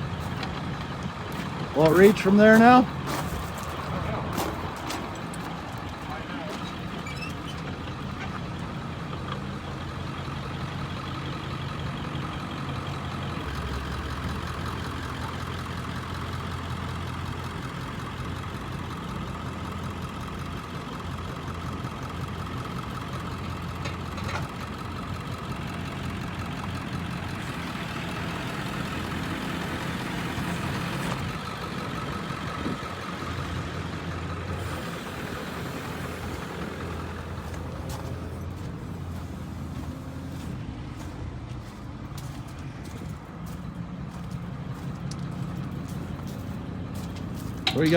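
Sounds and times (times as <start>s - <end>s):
truck engine idling: 0.0s - 47.9s.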